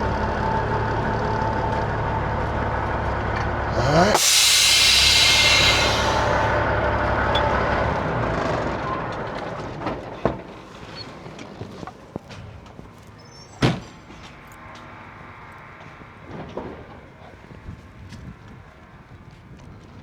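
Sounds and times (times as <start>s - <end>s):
truck rumble: 0.0s - 20.0s.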